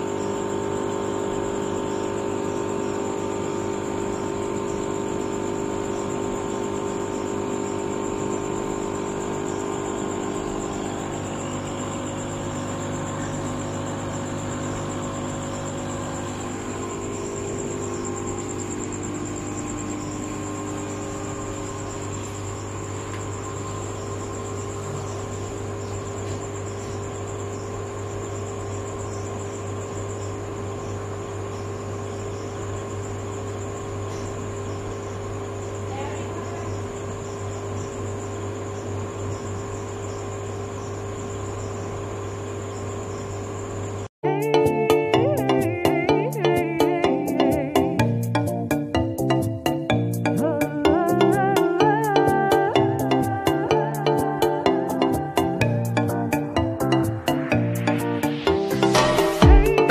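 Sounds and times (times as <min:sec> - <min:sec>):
air pump humming: 0:00.0 - 0:59.9.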